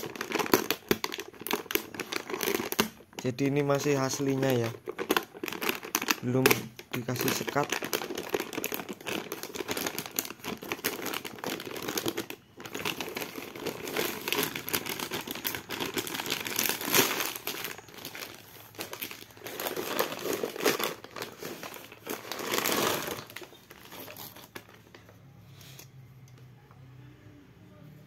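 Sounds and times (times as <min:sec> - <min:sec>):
plastic wrapping crinkling: 0:00.0 - 0:25.2.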